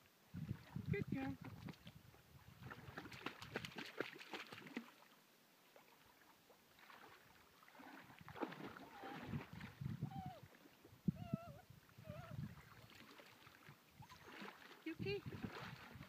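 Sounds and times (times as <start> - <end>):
water splashing from wading: 0.5 - 10.8, 12.4 - 16.0.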